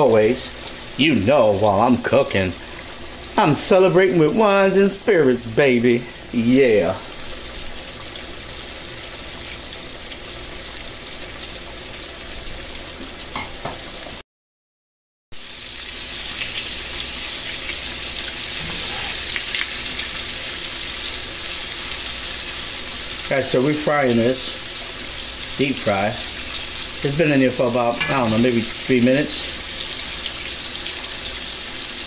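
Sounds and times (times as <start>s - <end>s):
fish deep frying in oil: 0.0s - 14.2s, 15.4s - 32.0s.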